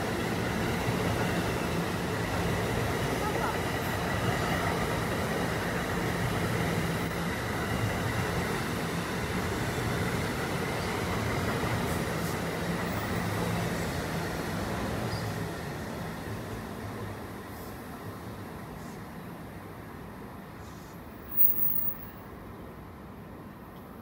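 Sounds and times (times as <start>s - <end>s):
train hum: 0.0s - 24.0s.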